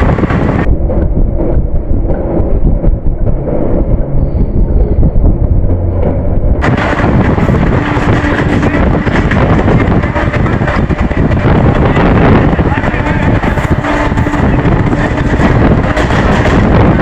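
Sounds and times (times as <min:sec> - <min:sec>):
muffled train rumble: 0:00.0 - 0:17.0.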